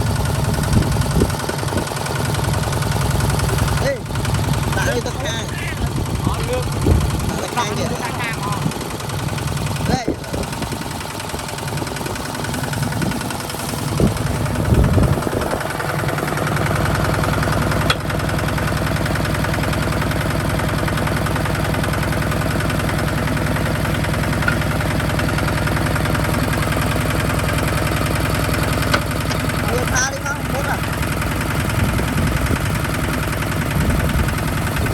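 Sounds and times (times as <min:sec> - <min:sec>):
tractor diesel engine knocking: 0:00.0 - 0:34.9.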